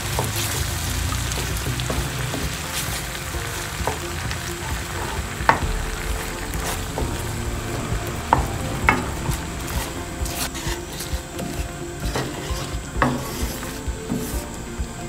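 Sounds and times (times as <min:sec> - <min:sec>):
paste sizzling in a frying pan: 0:00.0 - 0:15.0
spatula stirring and scraping: 0:00.0 - 0:15.0.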